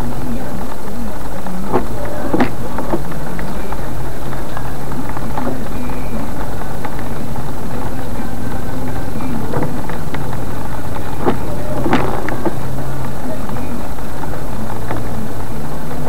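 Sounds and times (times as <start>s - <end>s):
constant noisy wash: 0.0s - 16.0s
vehicle engine humming: 0.0s - 16.0s
short knocks: 1.6s - 16.0s.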